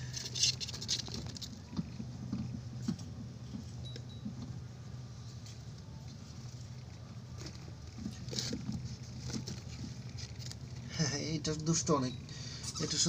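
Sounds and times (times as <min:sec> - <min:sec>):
hamster scrambling and pawing: 0:00.0 - 0:04.6, 0:05.4 - 0:11.7
steady low hum: 0:00.0 - 0:13.0.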